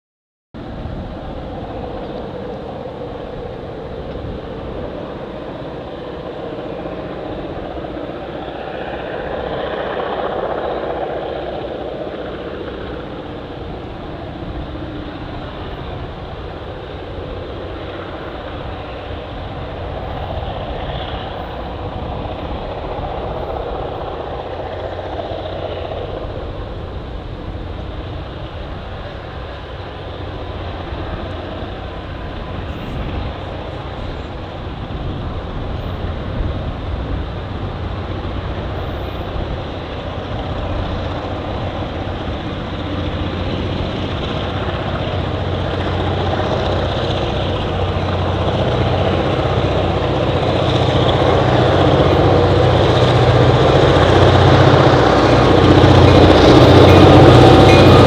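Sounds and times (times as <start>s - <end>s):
diesel locomotive engine working hard: 0.6s - 58.0s.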